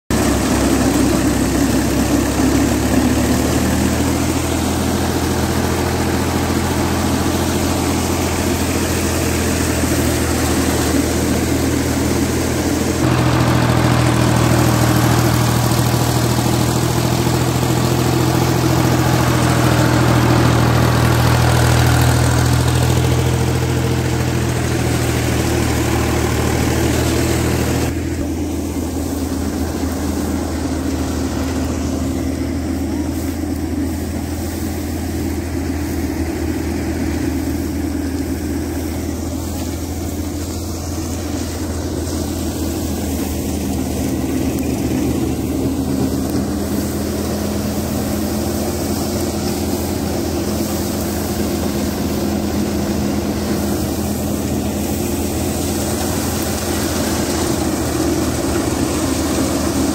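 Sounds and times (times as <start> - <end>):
diesel engine driving thresher: 0.0 - 59.9.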